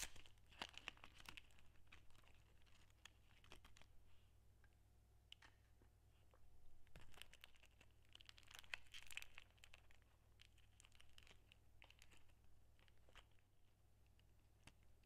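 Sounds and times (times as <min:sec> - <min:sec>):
sweet wrapper crinkling: 0:00.0 - 0:04.0, 0:05.3 - 0:15.0.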